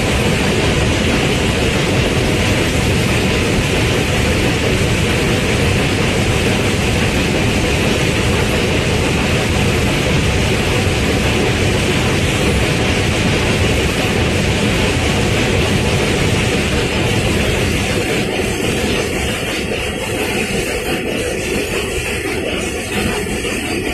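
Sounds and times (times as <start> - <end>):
train rumbling across steel bridge: 0.0 - 23.9.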